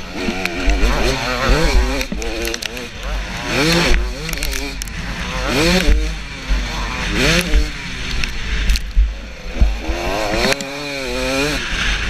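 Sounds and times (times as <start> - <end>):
motocross engine revving: 0.0 - 12.0.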